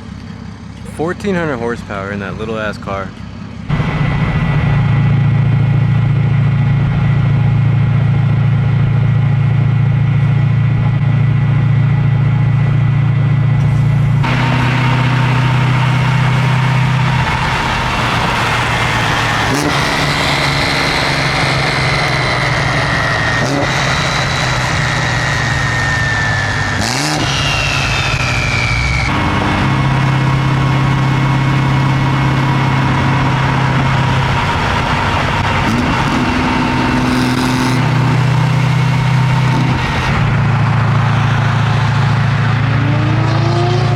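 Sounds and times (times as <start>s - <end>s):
car engines idling and revving: 0.0s - 43.9s.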